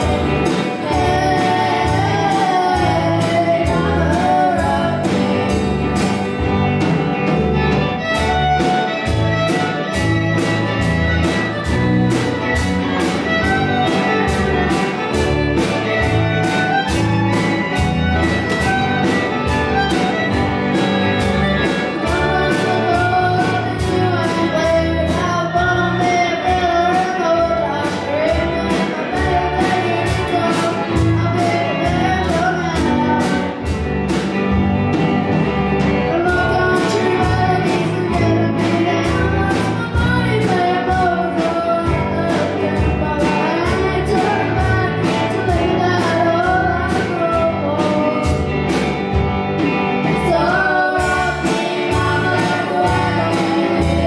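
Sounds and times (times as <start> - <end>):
child singing: 0.0 - 5.6, 13.0 - 33.8, 36.0 - 48.8, 50.0 - 54.0
band playing: 0.0 - 54.0.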